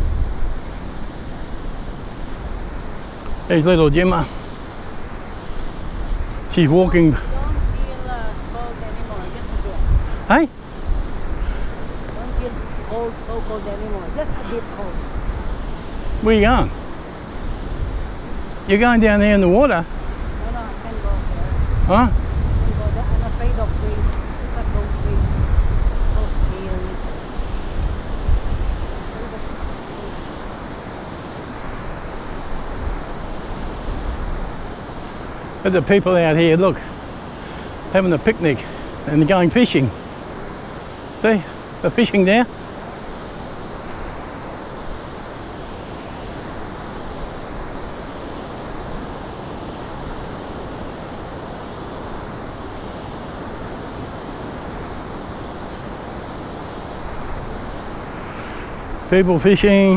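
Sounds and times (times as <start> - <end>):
ocean surf breaking on beach: 0.0 - 59.9
wind buffeting microphone: 0.0 - 59.9.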